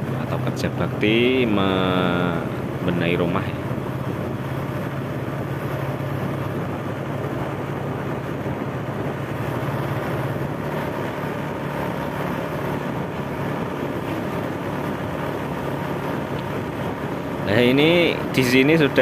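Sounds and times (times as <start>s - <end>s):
tyre noise on road: 0.0s - 19.0s
vehicle engine hum: 0.0s - 19.0s
wind noise: 0.0s - 19.0s.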